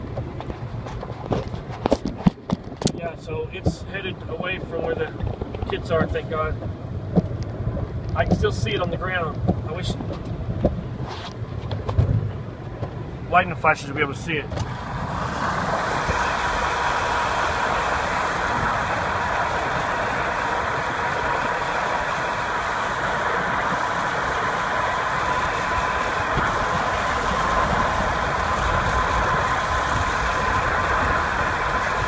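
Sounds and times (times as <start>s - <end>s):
car engine and road rumble: 0.0s - 32.0s
thin steady whine: 0.0s - 32.0s.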